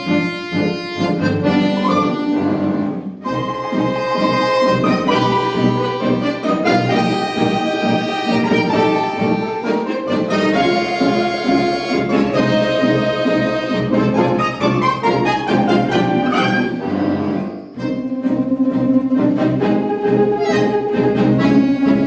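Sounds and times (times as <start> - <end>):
folk orchestra of accordions: 0.0 - 22.0.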